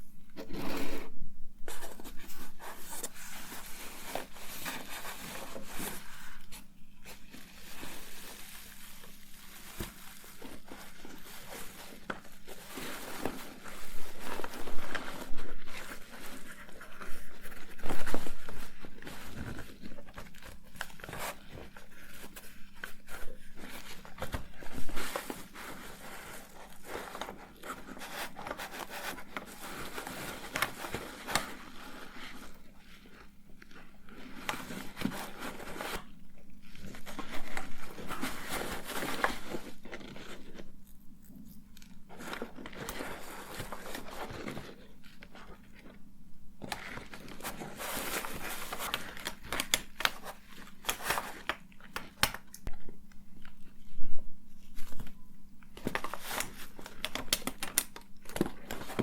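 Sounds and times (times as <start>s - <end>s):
faint steady hum: 0.0s - 59.0s
packaging crinkling and rustling: 1.6s - 59.0s.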